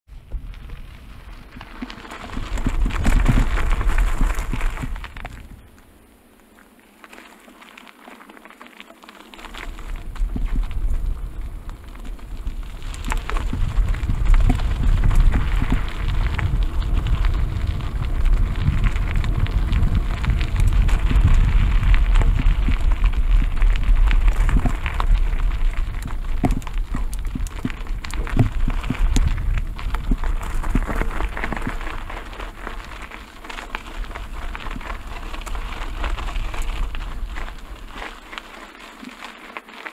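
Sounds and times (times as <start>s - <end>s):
wind rumble on microphone: 0.1s - 6.0s, 9.4s - 38.6s
bike tyres crunching on gravel: 0.1s - 39.9s
stones and bike rattling: 0.1s - 39.9s.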